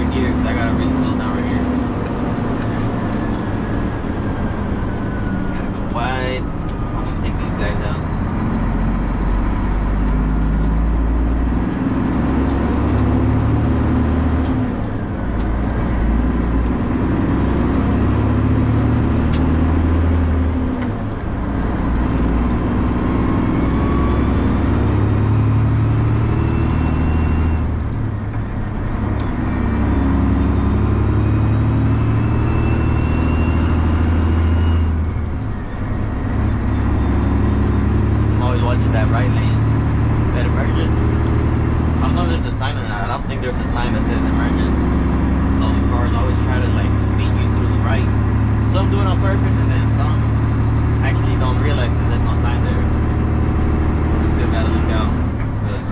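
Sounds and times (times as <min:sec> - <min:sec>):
loud diesel truck exhaust: 0:00.0 - 0:55.9.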